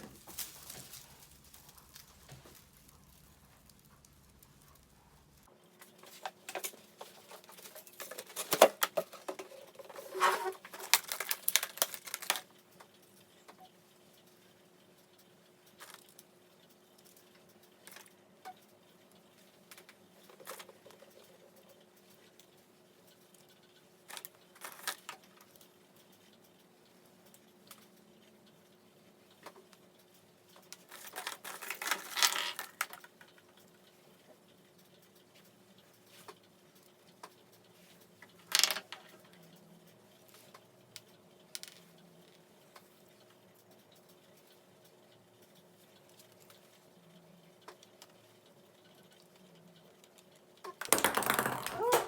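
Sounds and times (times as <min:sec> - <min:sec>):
small objects rustling and clicking: 0:00.0 - 0:14.4, 0:15.2 - 0:16.3, 0:16.9 - 0:26.6, 0:29.2 - 0:46.9, 0:47.6 - 0:52.0.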